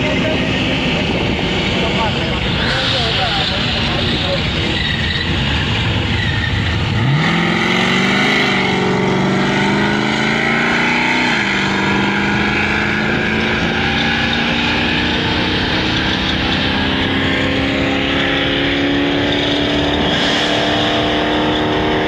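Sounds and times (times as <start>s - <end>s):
drag racing car engine: 0.0s - 22.0s.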